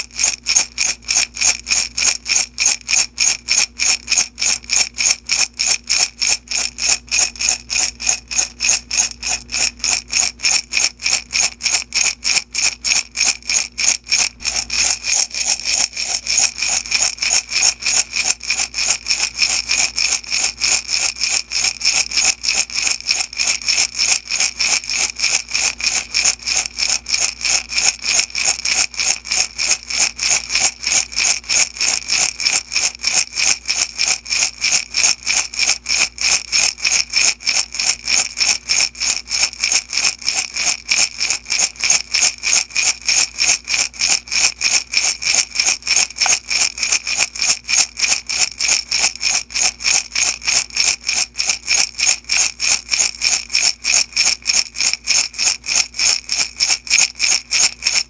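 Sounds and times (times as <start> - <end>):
beads rattling in a glass jar: 0.0 - 58.0.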